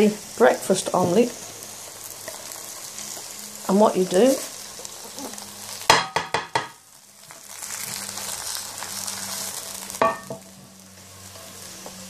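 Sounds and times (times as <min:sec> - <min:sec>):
hot fat sizzling: 0:00.0 - 0:12.0.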